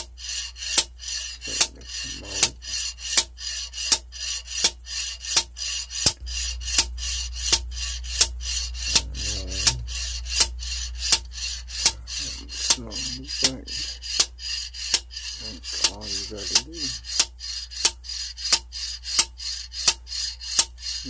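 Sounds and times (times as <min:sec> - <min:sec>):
ratchet rasping: 0:00.0 - 0:21.0
ratchet wrench clicking: 0:00.0 - 0:21.0.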